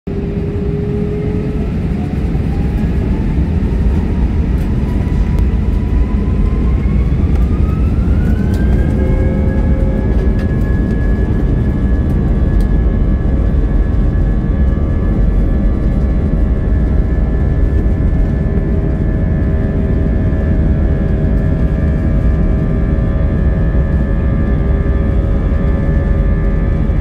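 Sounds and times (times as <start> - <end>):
jet engine whine: 0.1 - 27.0.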